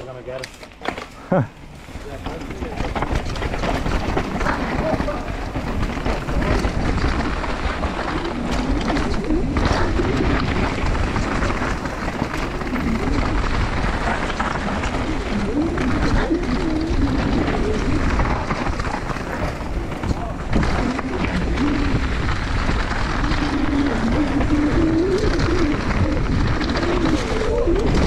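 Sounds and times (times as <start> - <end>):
bike rattle: 0.0 - 28.0
bike tyres rushing on trail: 0.0 - 28.0
wind noise on microphone: 2.2 - 28.0.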